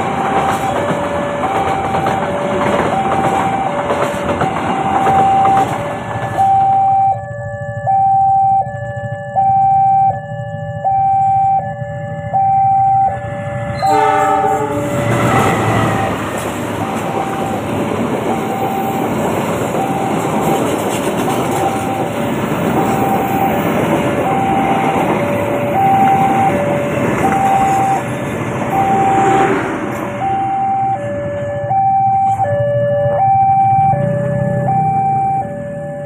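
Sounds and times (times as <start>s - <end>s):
level crossing two-tone alarm: 0.0s - 28.1s, 28.7s - 36.0s
passing train: 0.0s - 36.0s.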